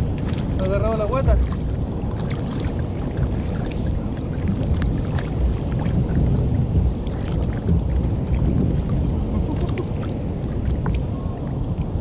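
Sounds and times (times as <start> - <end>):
fish splashing at water surface: 0.0 - 11.5
wind rumbling on microphone: 0.0 - 12.0.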